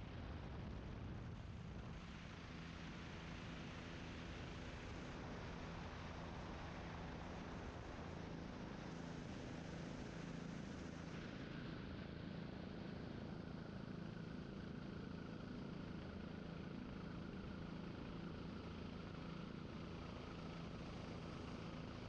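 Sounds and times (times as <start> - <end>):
helicopter engine and rotor drone: 0.0 - 22.0.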